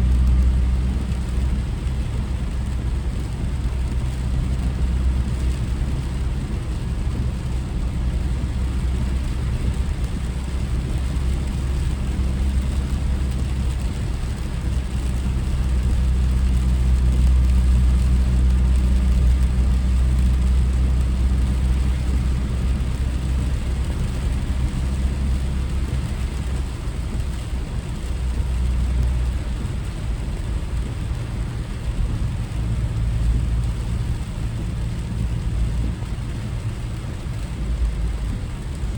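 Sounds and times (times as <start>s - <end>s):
car engine and road drone: 0.0s - 38.9s.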